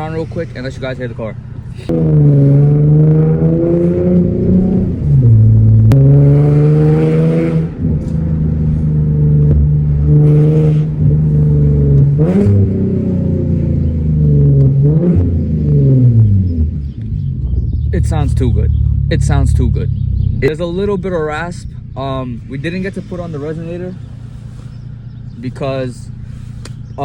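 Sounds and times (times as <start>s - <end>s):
raspy car exhaust revving: 0.0s - 27.0s.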